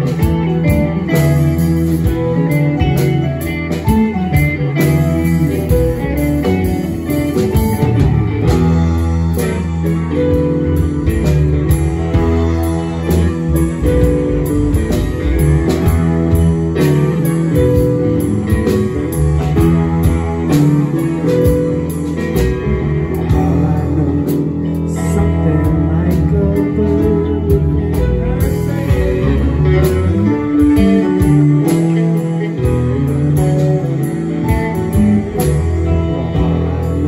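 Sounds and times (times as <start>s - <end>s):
bass guitar: 0.0s - 37.0s
drum kit with cymbals: 0.0s - 37.0s
electric guitar: 0.0s - 37.0s
keyboard: 0.0s - 37.0s.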